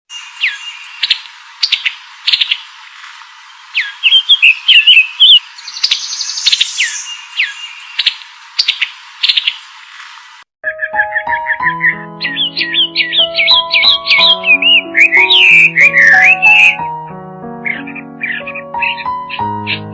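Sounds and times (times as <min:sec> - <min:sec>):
songbird calling: 0:00.1 - 0:09.7, 0:10.6 - 0:16.9, 0:17.6 - 0:19.9.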